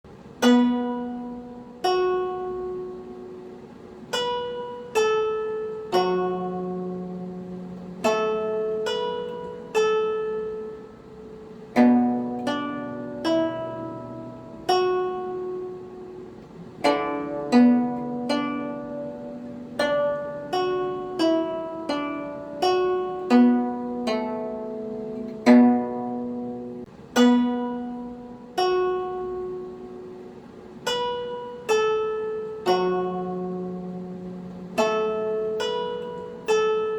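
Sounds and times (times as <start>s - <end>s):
plucked string instrument notes: 0.1s - 36.9s.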